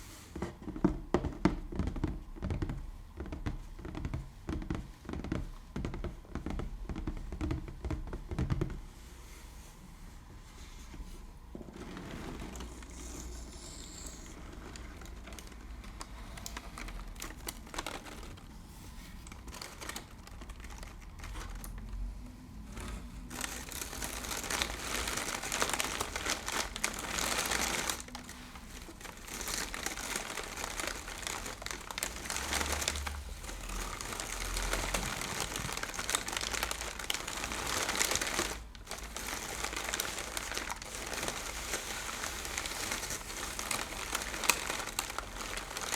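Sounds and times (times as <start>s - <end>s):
crinkly material crumpled by hand: 0.0s - 45.9s.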